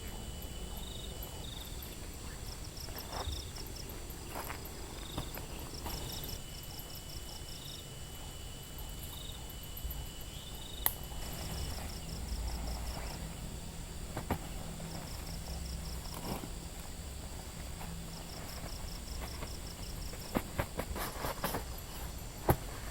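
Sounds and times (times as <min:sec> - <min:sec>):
crickets chirping: 0:00.0 - 0:22.9
steady high insect buzz: 0:00.0 - 0:22.9.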